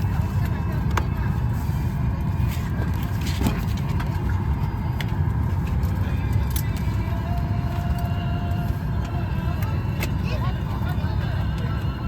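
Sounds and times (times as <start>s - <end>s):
airplane cabin air conditioning rumble: 0.0s - 12.0s.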